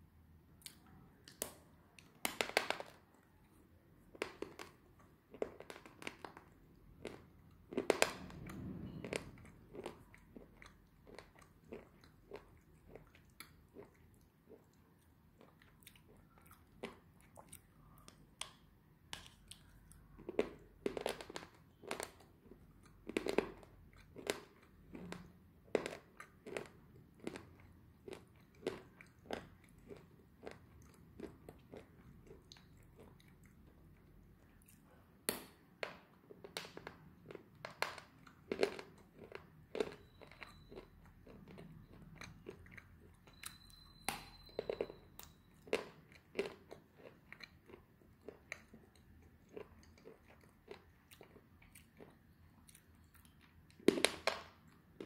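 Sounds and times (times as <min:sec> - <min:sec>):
person chewing with dry crunches: 0:00.6 - 0:35.2, 0:35.9 - 0:55.0.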